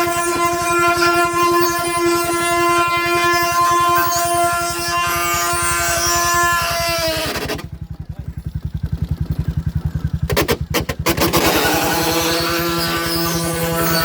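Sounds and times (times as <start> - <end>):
low throbbing: 0.0 - 14.0
wooden axle wailing whine: 0.0 - 14.0.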